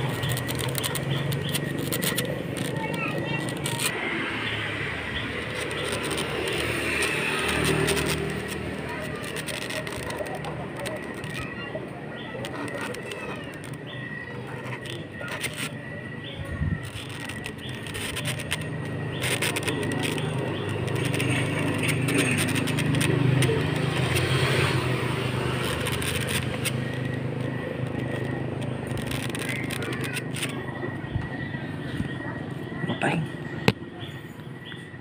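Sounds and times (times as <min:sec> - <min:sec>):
marker squeaking on styrofoam: 0:00.0 - 0:31.3.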